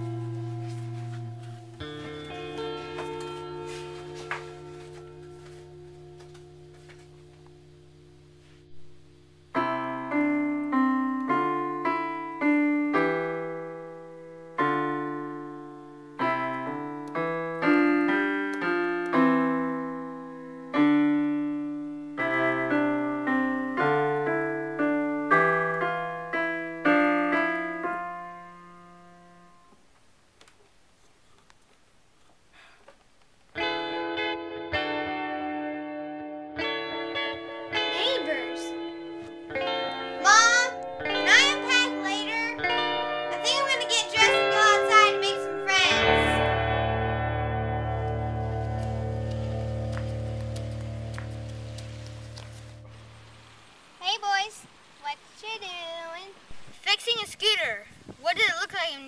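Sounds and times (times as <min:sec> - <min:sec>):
digital piano notes and chords: 0:00.0 - 0:29.8, 0:33.5 - 0:53.4.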